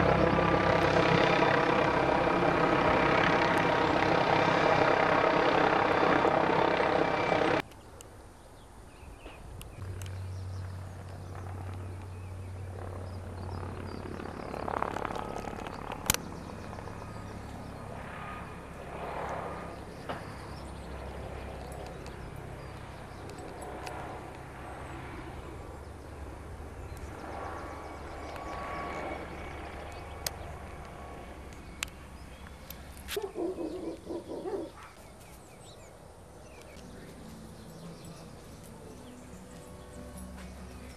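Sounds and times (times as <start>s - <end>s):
helicopter rotor drone: 0.0s - 7.8s, 9.5s - 40.9s.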